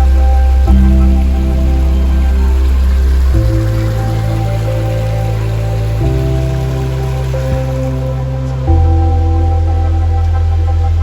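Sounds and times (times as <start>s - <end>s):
background music of held chords: 0.0s - 11.0s.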